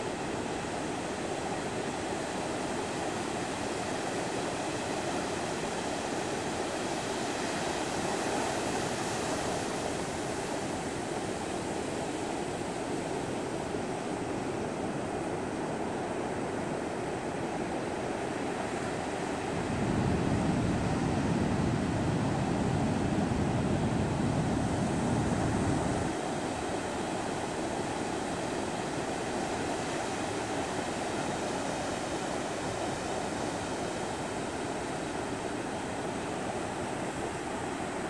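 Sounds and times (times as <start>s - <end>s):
ocean surf breaking on beach: 0.0s - 38.0s.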